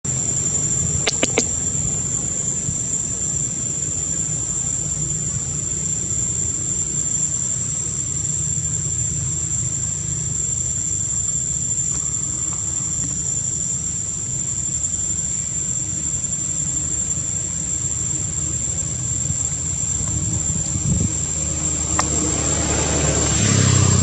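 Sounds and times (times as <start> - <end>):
high-pitched insect drone: 0.1 - 24.0.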